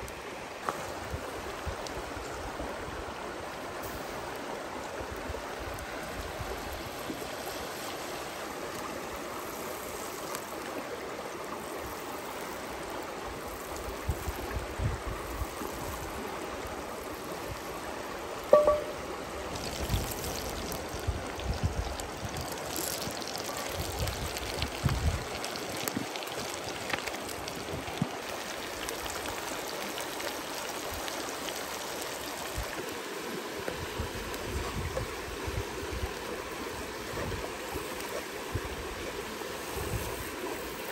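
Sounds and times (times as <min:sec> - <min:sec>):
creek running over rocks: 0:00.0 - 0:40.9.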